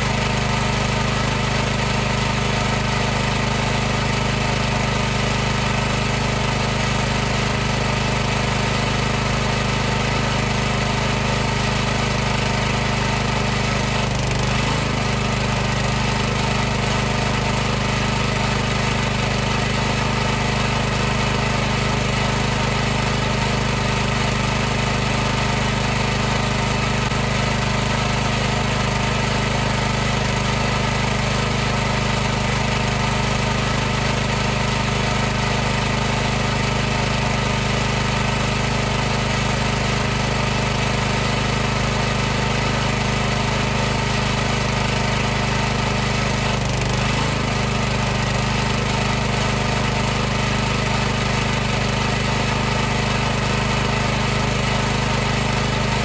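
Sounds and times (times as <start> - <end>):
pressure washer pump humming: 0.0 - 56.0.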